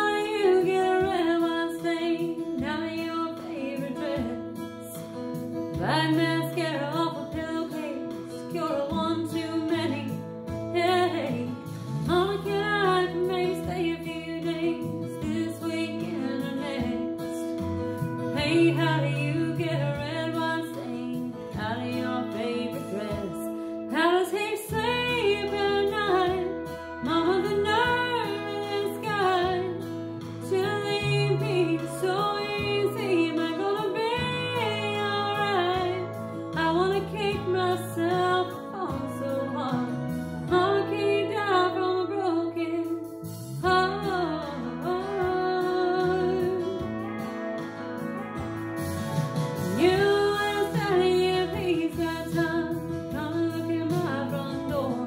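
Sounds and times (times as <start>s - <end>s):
instrumental accompaniment: 0.0s - 55.0s
woman singing country ballad: 0.0s - 55.0s.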